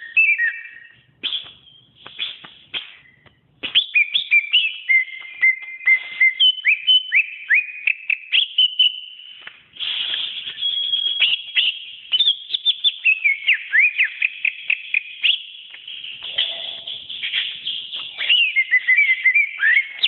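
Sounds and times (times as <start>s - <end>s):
bird singing whistled notes: 0.0s - 20.0s.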